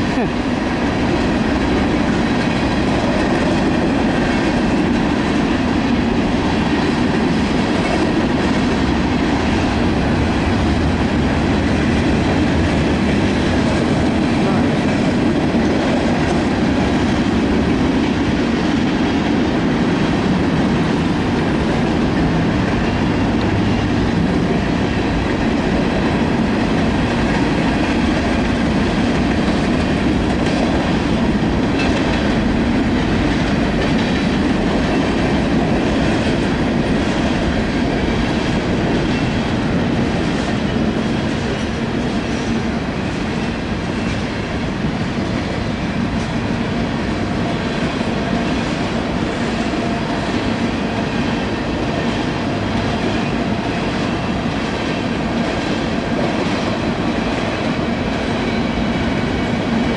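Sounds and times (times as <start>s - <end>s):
freight train cars rolling past: 0.0s - 59.9s.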